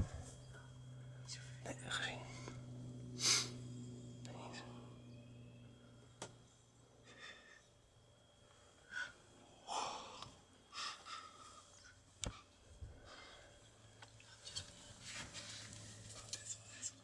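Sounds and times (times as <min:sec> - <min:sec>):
people breathing and whispering: 0:00.0 - 0:03.6, 0:04.2 - 0:05.0, 0:07.0 - 0:07.8, 0:08.4 - 0:17.0
faint low hum: 0:00.0 - 0:17.0.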